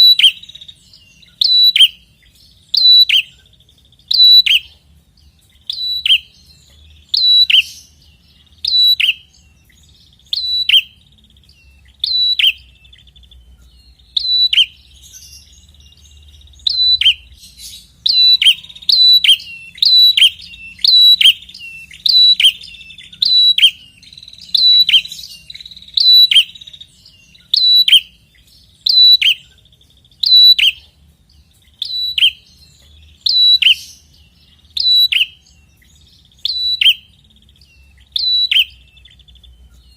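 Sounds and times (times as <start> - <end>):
faint bird trill: 0.0 - 39.9.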